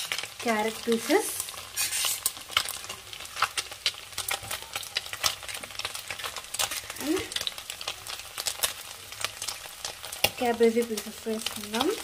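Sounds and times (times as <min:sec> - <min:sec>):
hot oil sizzling in a pan: 0:00.0 - 0:12.0.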